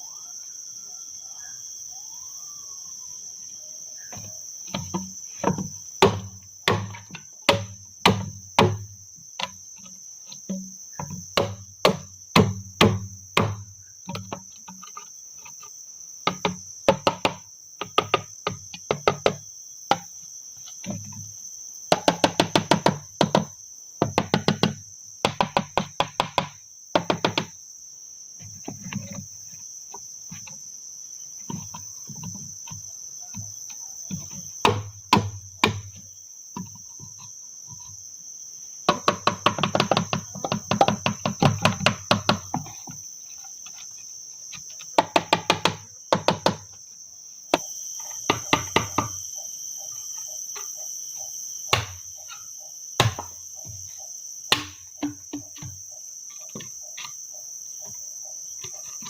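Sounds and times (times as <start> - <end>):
high insect trill: 0.0 - 59.0.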